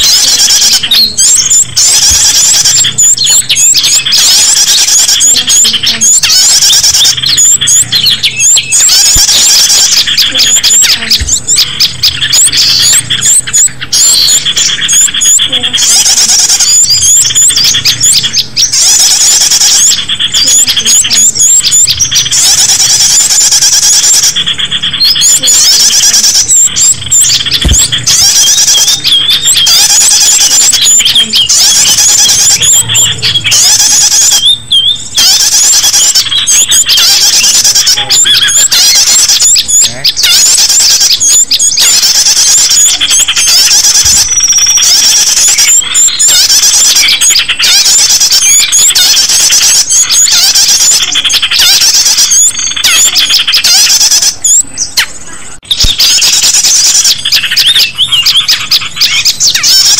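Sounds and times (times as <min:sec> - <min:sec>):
shrill bird chirps and trills: 0:00.0 - 0:59.9.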